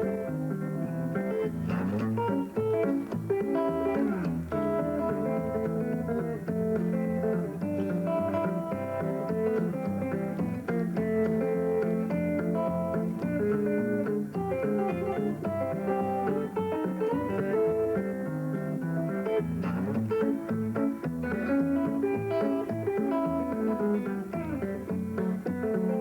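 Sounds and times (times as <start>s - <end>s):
fingerpicked acoustic guitar: 0.0s - 26.0s.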